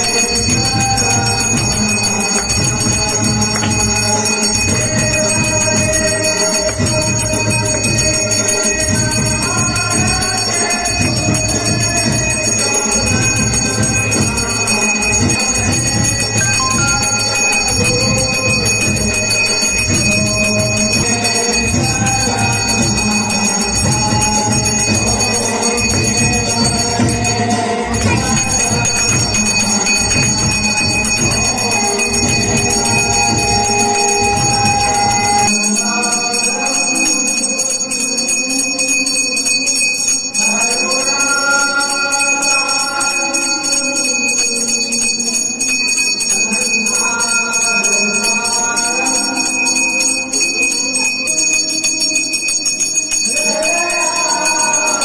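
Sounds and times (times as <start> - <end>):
bell ringing: 0.0 - 55.0
devotional music: 0.0 - 55.0.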